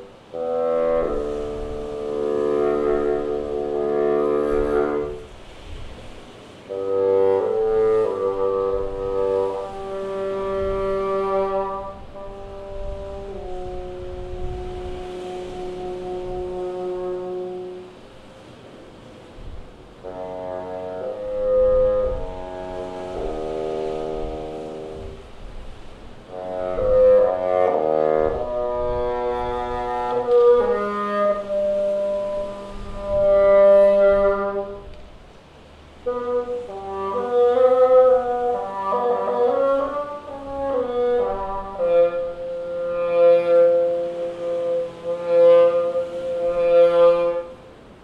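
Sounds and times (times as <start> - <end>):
solo bassoon playing: 0.0 - 18.8, 19.4 - 48.0.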